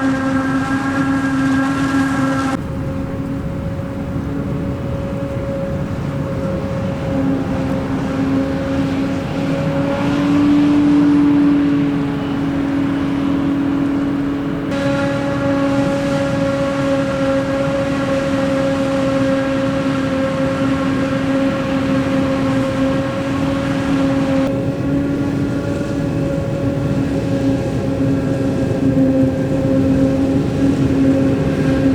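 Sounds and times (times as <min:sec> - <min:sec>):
farm machinery engine drone: 0:00.0 - 0:31.9
steady whining tone: 0:00.0 - 0:31.9.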